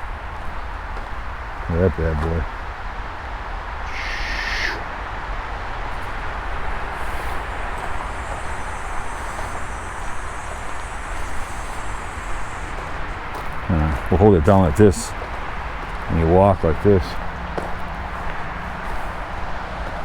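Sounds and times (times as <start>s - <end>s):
high insect drone: 3.8s - 20.0s.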